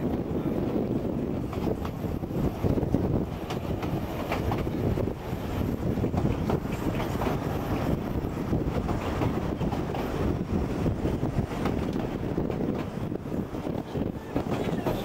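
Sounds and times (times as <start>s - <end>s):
train rumbling: 0.0s - 15.0s
wheels clicking and clattering: 1.4s - 15.0s.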